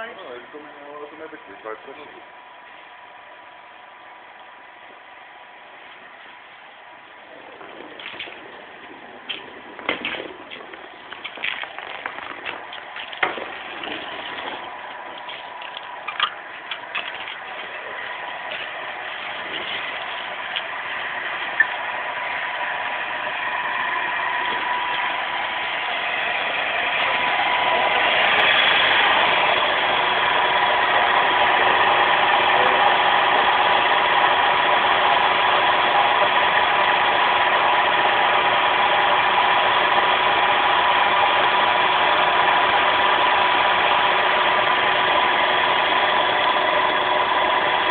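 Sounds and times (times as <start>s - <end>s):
pump motor humming: 0.0s - 47.9s.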